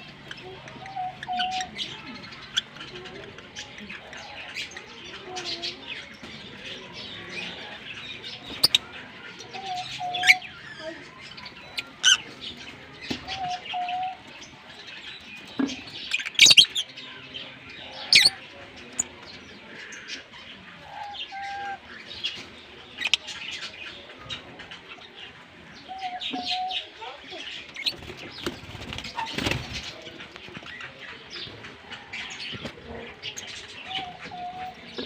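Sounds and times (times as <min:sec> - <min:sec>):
lovebirds chattering: 0:00.0 - 0:35.0.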